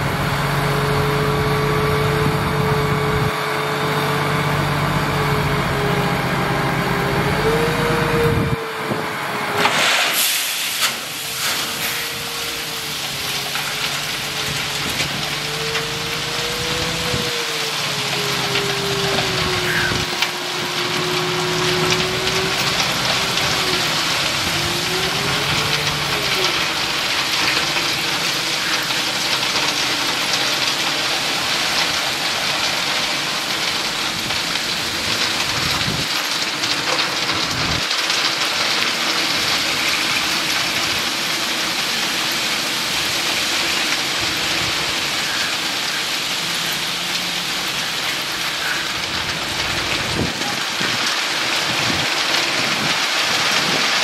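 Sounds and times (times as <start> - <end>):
diesel truck engine running: 0.0 - 54.0
gravel pouring onto a heap: 9.6 - 54.0.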